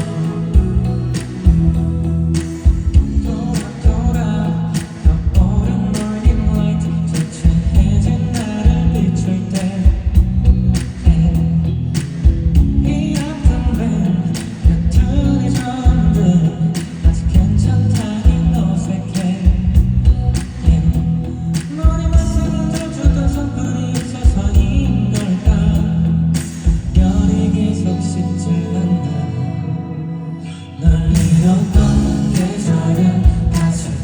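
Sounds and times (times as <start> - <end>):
band with drums and bass: 0.0 - 27.8, 30.8 - 34.0
man singing pop ballad: 0.0 - 34.0.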